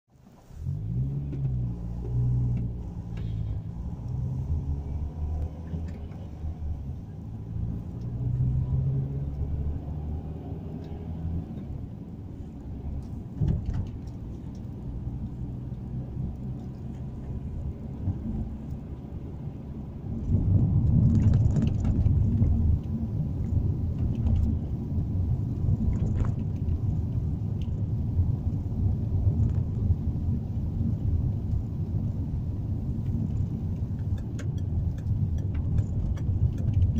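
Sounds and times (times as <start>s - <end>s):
car engine and road noise: 0.1s - 36.9s.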